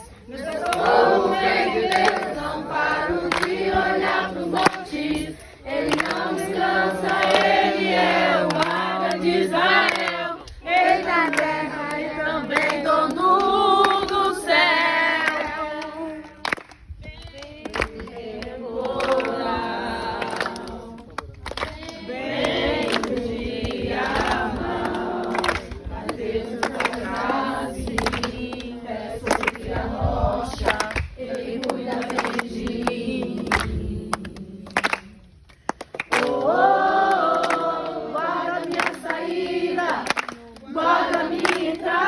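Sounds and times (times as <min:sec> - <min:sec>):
group singing a hymn: 0:00.0 - 0:42.0.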